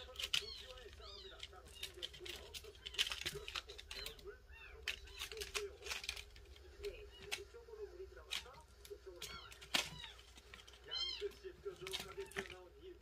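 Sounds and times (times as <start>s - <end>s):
kitten claws scratching wicker: 0.0s - 12.7s.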